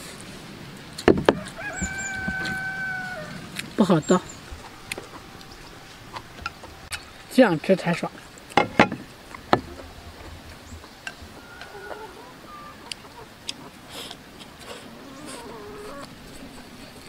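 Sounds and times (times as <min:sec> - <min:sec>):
chickens clucking: 0:00.8 - 0:17.0.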